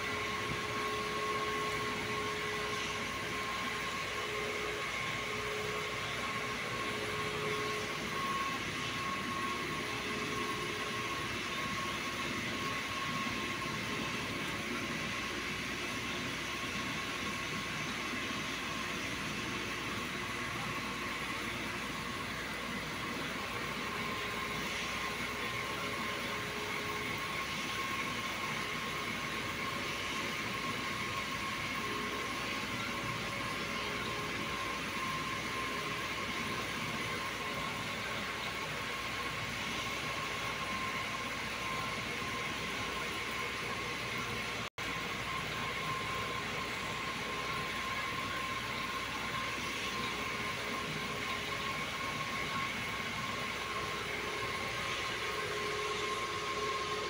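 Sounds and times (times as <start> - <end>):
mechanical whir and hiss: 0.0 - 57.0.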